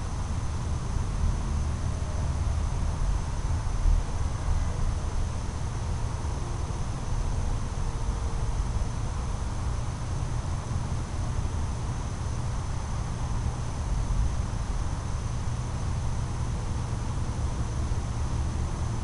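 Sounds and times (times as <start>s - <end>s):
constant low rumble: 0.0s - 19.0s.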